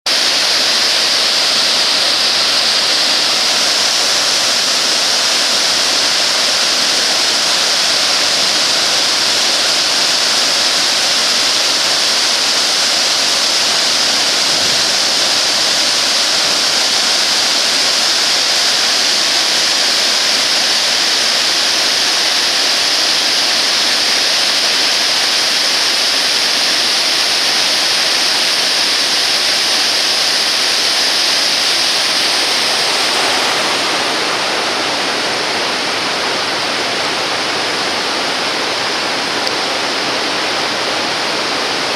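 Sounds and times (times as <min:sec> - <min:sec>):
waterfall hissing: 0:00.0 - 0:41.9.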